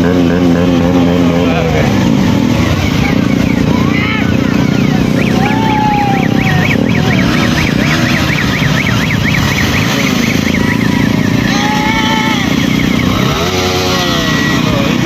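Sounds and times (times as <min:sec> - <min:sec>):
high warbling tone: 0:00.0 - 0:15.0
motorcycle engines running: 0:00.0 - 0:15.0
road noise: 0:00.0 - 0:15.0.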